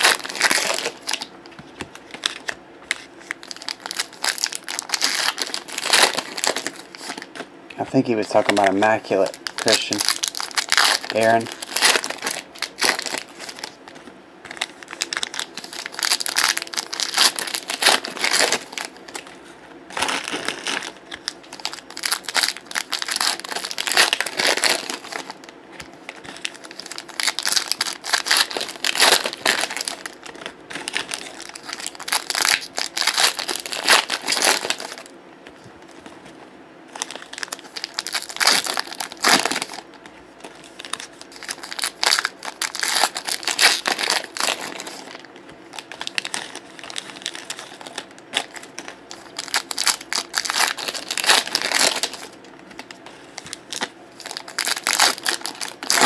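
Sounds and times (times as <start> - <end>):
foil wrappers tearing and crinkling: 0.0 - 1.3, 2.1 - 13.9, 14.5 - 19.3, 19.9 - 25.5, 26.1 - 35.1, 36.9 - 56.0.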